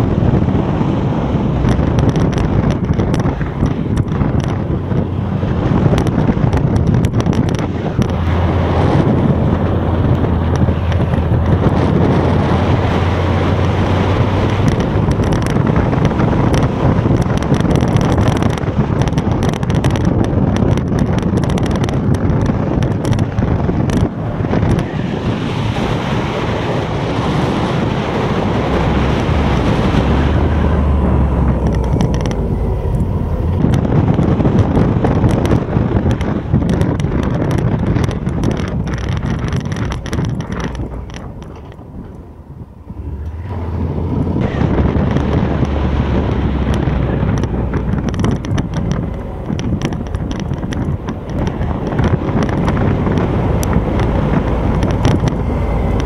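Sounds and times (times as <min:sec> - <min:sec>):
motorcycle engine hum: 0:00.0 - 0:56.0
wind rushing over microphone: 0:00.0 - 0:56.0.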